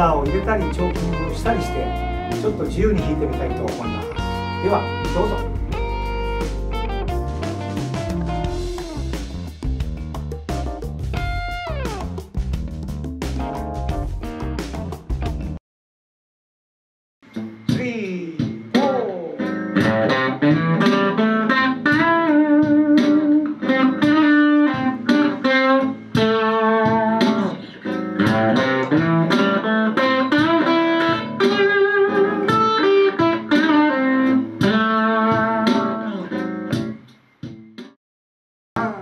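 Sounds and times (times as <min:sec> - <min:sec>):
electric guitar blues lead: 0:00.0 - 0:12.2, 0:17.3 - 0:37.0.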